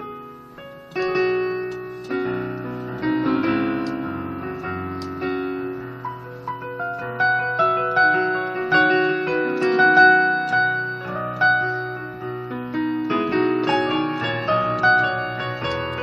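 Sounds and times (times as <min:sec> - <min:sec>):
blues piano playing: 0:00.0 - 0:16.0.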